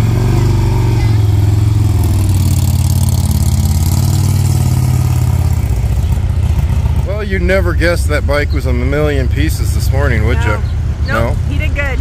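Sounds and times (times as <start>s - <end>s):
motorcycle pulling away: 0.0s - 11.4s
motorcycle engines running: 0.0s - 12.0s.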